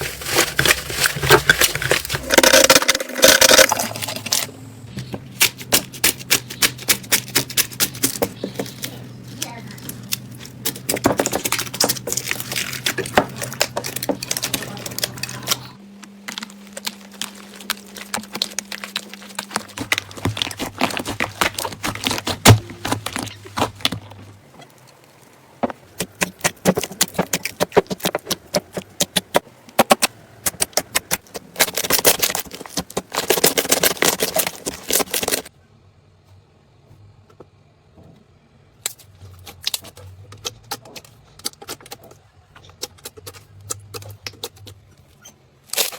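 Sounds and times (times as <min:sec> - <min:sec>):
crunchy slime crackling: 0:00.0 - 0:04.5, 0:05.3 - 0:35.5, 0:38.8 - 0:45.9.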